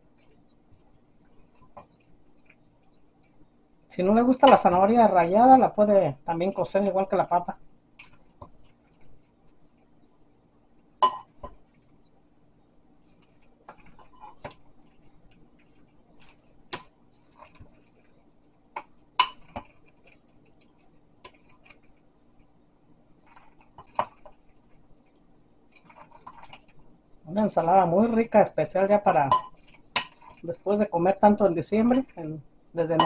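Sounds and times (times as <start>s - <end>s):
faint steady hum: 0.0s - 33.0s
soft wet stirring: 0.0s - 33.0s.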